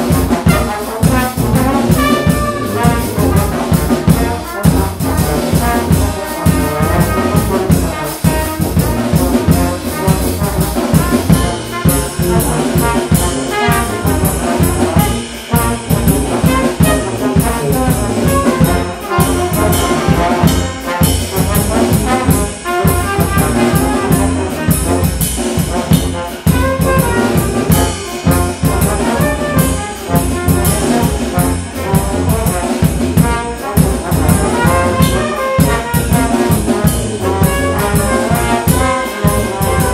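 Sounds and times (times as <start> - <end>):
brass band playing: 0.0 - 39.9
drum kit beat: 0.0 - 39.9.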